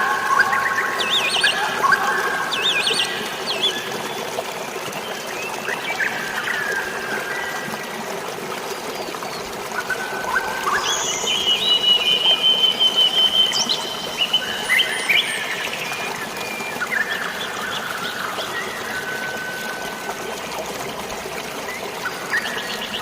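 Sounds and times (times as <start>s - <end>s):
flowing water rushing: 0.0s - 23.0s.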